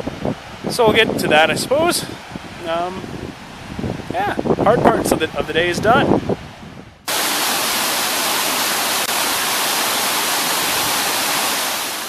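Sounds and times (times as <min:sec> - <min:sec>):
waterfall roaring over rock: 0:00.0 - 0:12.0.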